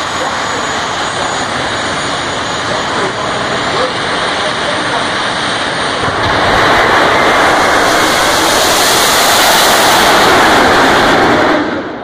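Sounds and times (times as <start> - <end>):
jet turbine engines rushing: 0.0 - 12.0.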